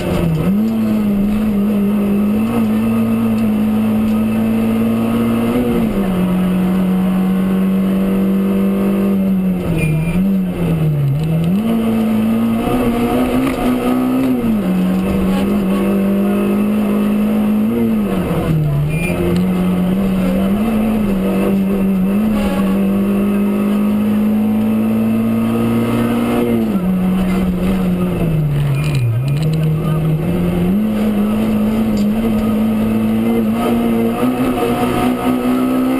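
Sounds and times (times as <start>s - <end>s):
rally car engine running hard: 0.0s - 35.9s.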